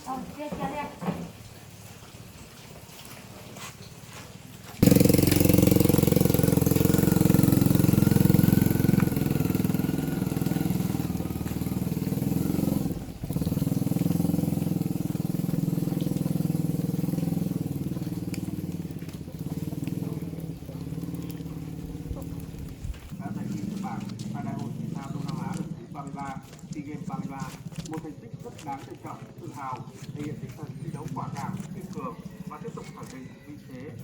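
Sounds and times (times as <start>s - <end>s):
engine running: 4.7s - 34.0s.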